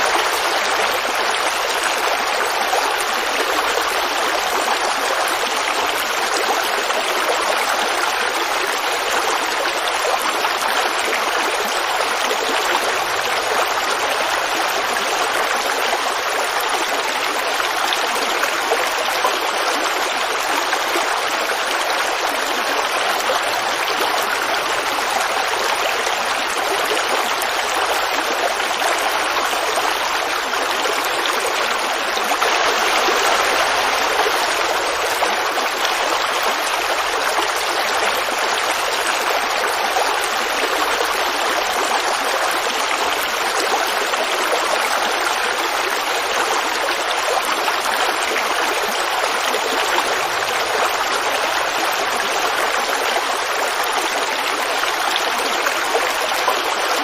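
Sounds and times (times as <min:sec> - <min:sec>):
creek babbling over stones: 0:00.0 - 0:57.0.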